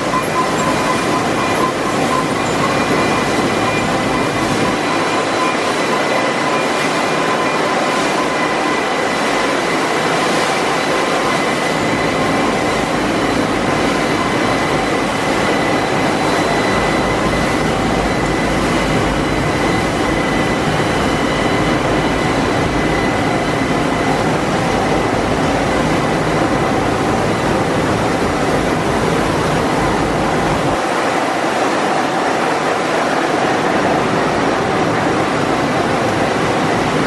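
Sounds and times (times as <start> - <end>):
high steady whining tones: 0.0 - 37.0
machinery noise: 0.0 - 37.0.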